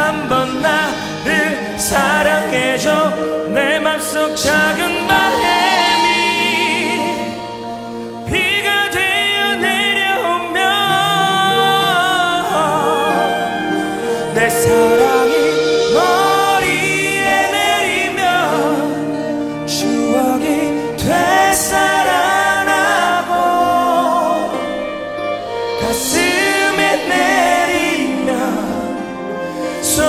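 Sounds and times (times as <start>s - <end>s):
man singing pop ballad: 0.0s - 7.3s, 8.2s - 30.0s
band accompaniment: 0.0s - 30.0s.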